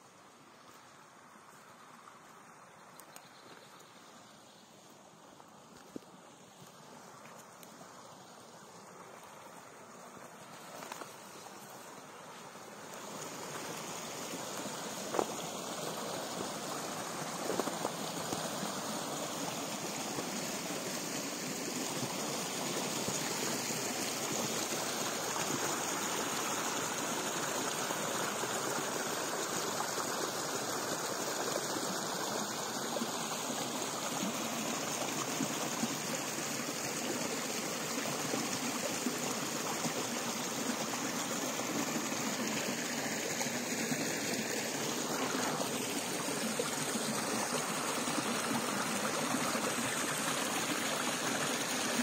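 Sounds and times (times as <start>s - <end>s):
brook flowing: 0.0s - 52.0s.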